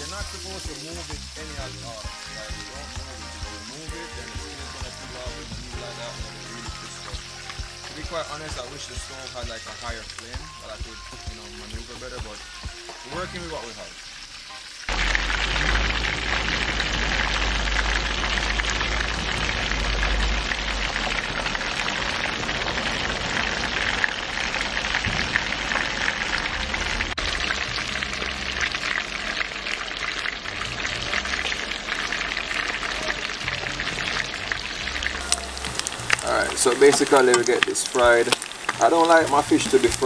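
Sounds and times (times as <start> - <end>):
fish deep-frying in hot oil: 0.0 - 40.0.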